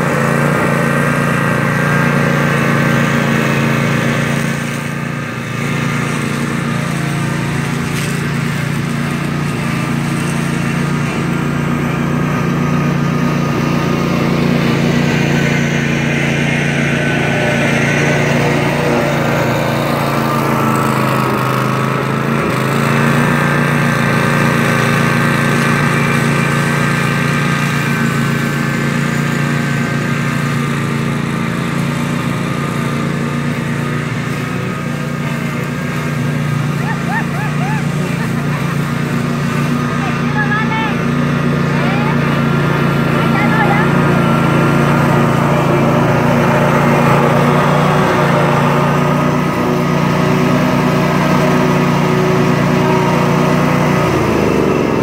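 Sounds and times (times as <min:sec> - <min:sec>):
riding mower cutting grass: 0:00.0 - 0:55.0.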